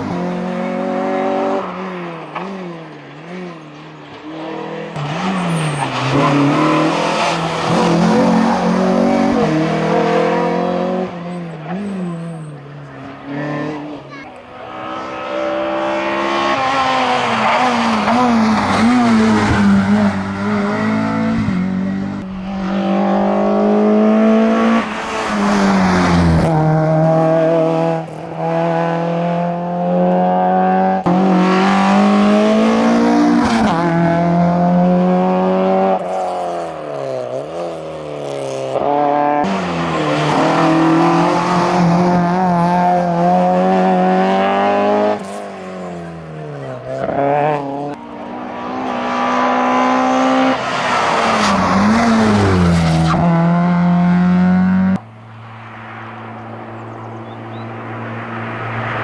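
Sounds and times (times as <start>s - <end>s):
car engine revving hard: 0.0s - 59.0s
rally car passing: 0.0s - 59.0s.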